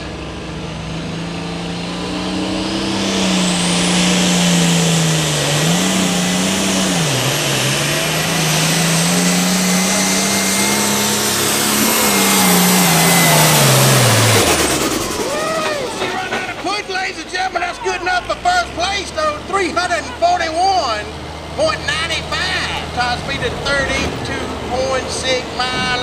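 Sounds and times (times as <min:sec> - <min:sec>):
tractor diesel engine at full throttle: 0:00.0 - 0:26.0.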